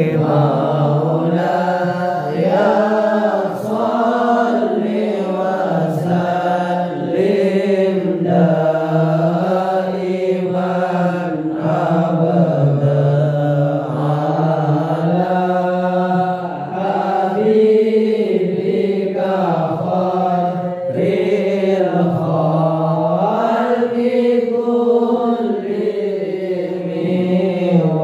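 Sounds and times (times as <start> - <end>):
young man chanting into microphone: 0.0 - 28.0.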